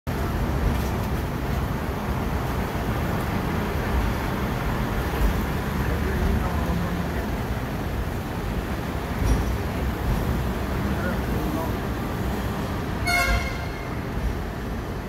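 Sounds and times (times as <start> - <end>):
street traffic: 0.1 - 15.0
tram rumbling along rails: 0.1 - 15.0.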